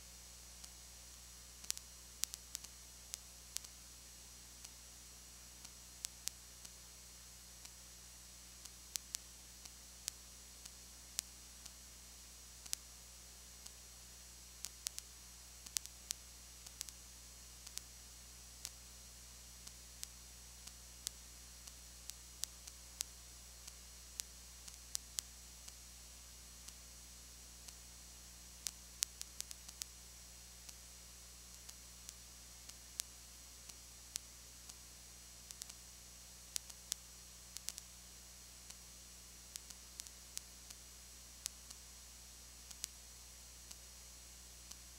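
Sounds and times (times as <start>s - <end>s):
recording hiss and hum: 0.0s - 44.9s.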